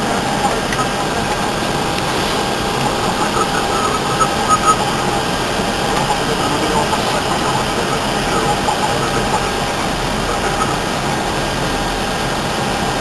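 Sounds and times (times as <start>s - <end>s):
airflow and engine rush: 0.0s - 13.0s
faint steady hum: 0.0s - 13.0s.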